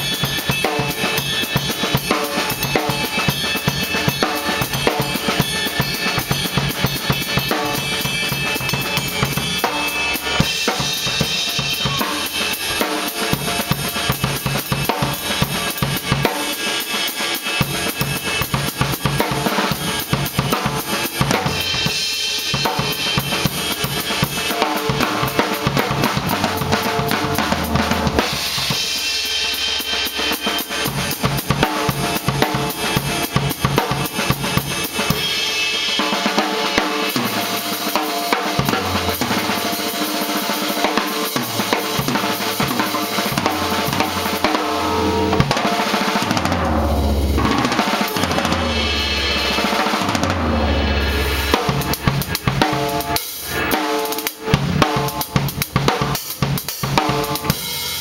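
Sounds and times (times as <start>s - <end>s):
cymbal crashes: 0.0s - 58.0s
drum kit solo: 0.0s - 58.0s.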